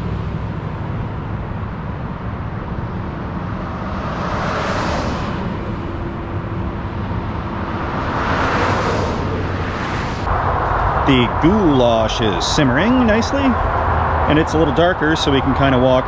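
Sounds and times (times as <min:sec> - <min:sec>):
freeway traffic rumble: 0:00.0 - 0:16.0
car passing close by: 0:02.8 - 0:16.0.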